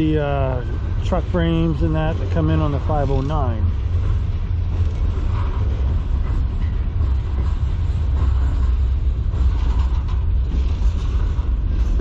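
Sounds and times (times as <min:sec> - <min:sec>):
steel wheels rumbling on rail: 0:00.0 - 0:12.0.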